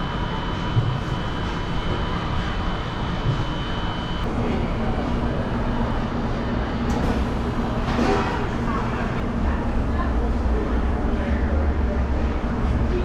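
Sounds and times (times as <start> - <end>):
machine noise: 0.0 - 12.5.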